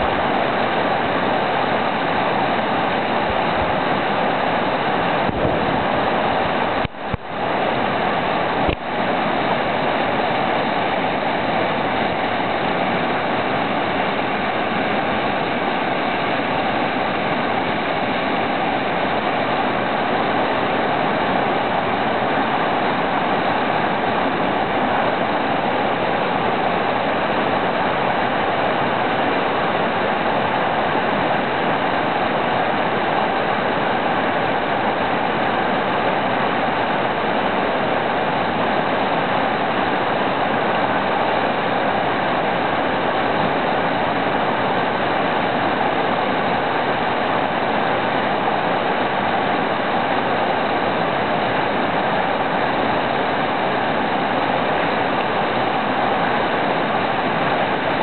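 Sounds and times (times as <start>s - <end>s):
river rapids rushing over boulders: 0.0s - 58.0s.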